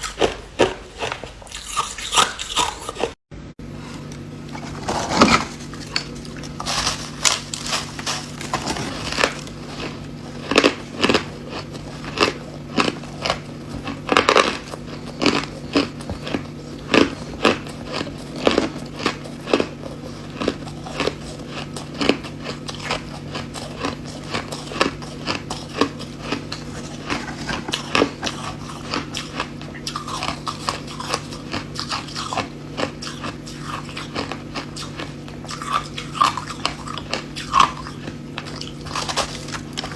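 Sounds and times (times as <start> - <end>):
ice crunching while chewed: 0.0 - 3.2, 4.0 - 39.9.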